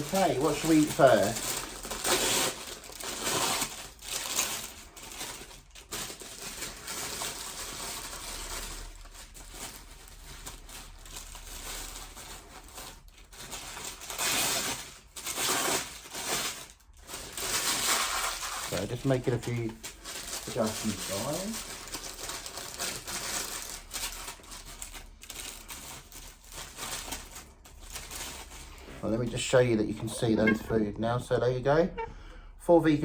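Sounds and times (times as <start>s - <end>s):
rustling: 0.0s - 30.7s.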